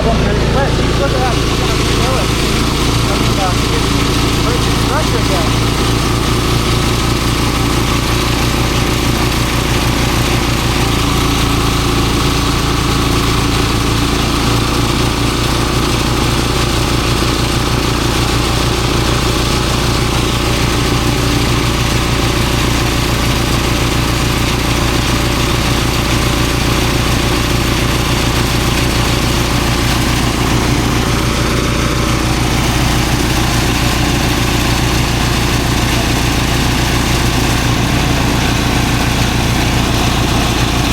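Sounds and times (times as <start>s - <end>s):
threshing machine engine running: 0.0s - 40.9s.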